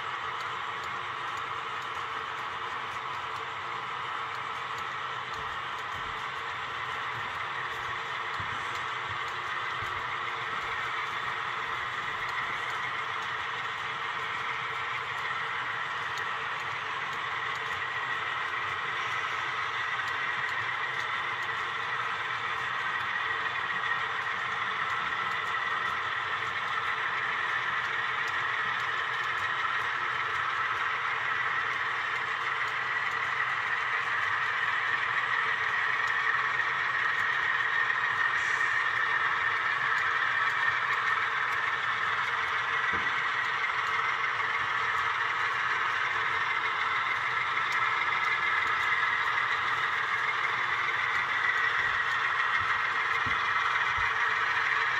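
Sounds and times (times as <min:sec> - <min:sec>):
model train cars rolling: 0:00.0 - 0:54.9
wheels clicking on track: 0:00.0 - 0:54.9.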